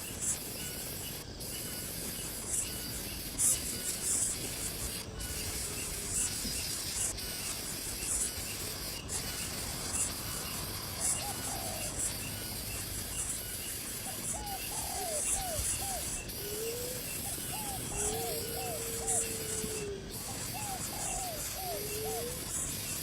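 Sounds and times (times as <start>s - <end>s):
steady hiss: 0.0s - 23.0s
nestling birds rasping calls: 3.4s - 23.0s.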